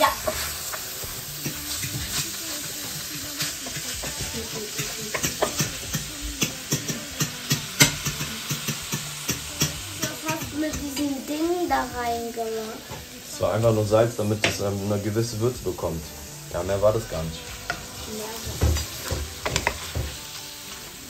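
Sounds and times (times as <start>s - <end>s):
meat sizzling in a frying pan: 0.0s - 21.0s.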